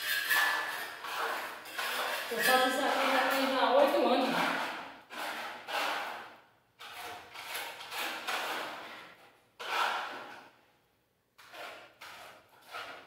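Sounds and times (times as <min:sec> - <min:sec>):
trowel scraping across wall: 0:00.0 - 0:10.6, 0:11.4 - 0:13.0.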